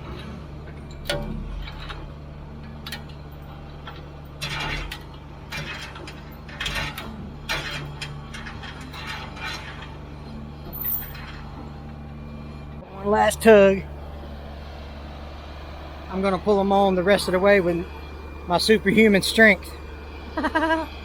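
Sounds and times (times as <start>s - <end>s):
metallic clanks and creaks: 0.0s - 20.4s
diesel engine running: 0.0s - 21.0s.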